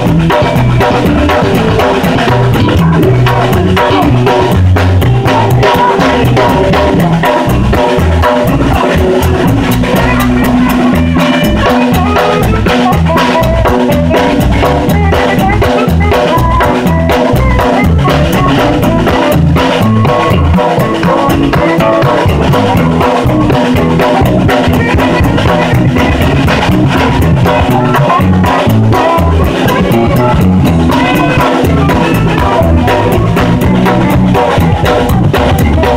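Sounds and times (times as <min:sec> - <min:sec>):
drums and cymbals: 0:00.0 - 0:35.9
live band music: 0:00.0 - 0:35.9.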